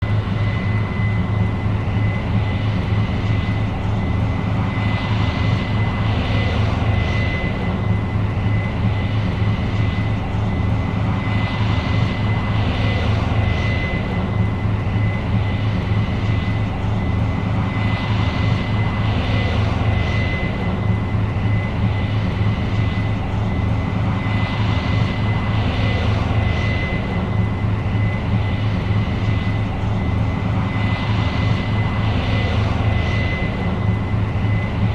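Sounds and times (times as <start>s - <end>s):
combine engine drone: 0.0s - 34.9s
thin high whine: 0.0s - 34.9s.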